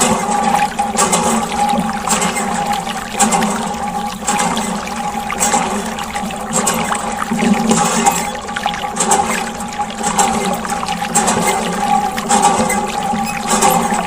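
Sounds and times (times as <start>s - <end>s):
water churning and splashing: 0.0s - 14.0s.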